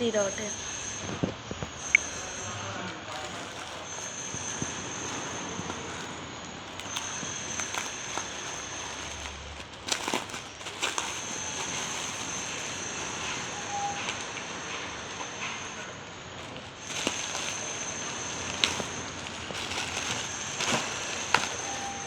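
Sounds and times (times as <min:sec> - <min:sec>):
plastic packaging crackling: 0:01.1 - 0:22.0.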